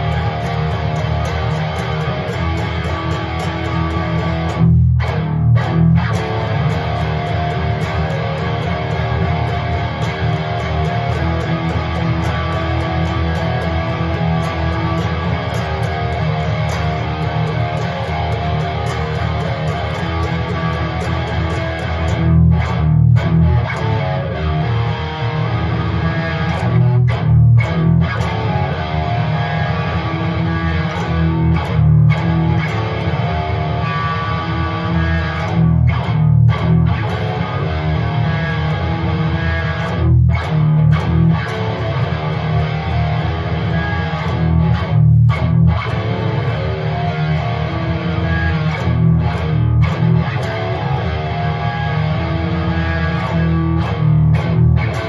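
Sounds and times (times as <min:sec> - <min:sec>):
electric guitar chords: 0:00.0 - 0:55.0.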